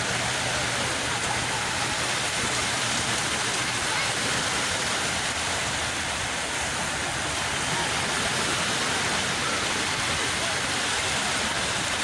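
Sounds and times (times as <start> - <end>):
sea waves washing onto shore: 0.0 - 12.0.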